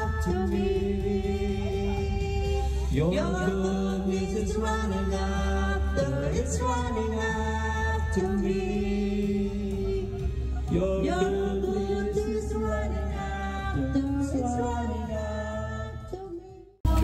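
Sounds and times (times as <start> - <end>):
backing track: 0.0 - 16.2
man and woman singing duet: 0.0 - 17.0.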